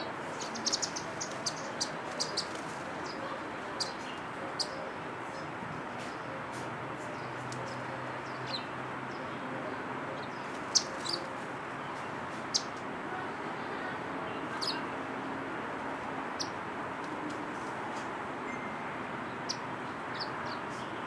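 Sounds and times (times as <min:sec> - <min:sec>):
small birds chirping: 0:00.0 - 0:12.9, 0:13.7 - 0:15.0, 0:15.8 - 0:21.0.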